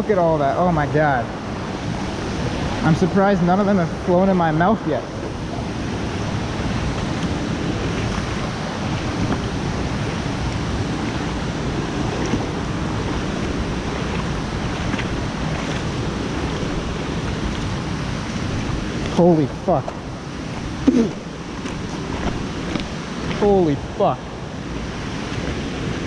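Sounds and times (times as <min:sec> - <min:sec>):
water rushing over waterfall: 0:00.0 - 0:26.0.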